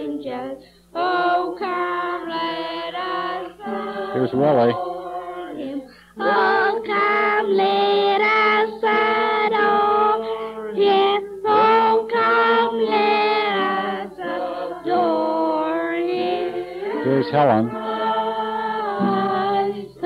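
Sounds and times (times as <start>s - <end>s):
child singing: 0.0s - 20.0s.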